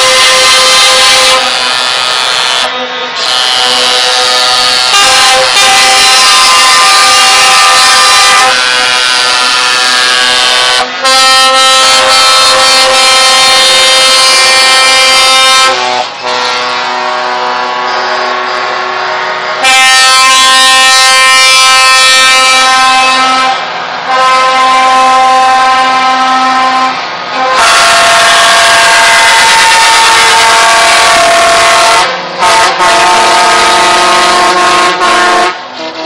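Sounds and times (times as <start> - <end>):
truck air horns blowing chords: 0.0 - 36.0.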